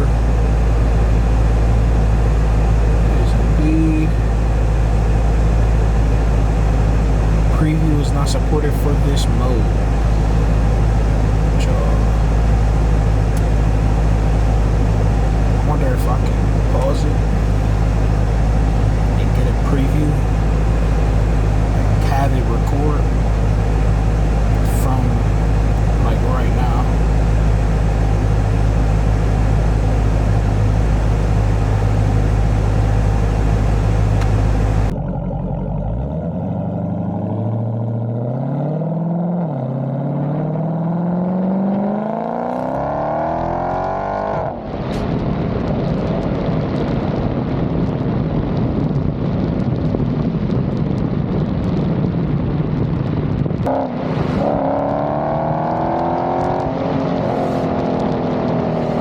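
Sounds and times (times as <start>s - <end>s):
car engine through loud exhaust: 0.0s - 59.0s.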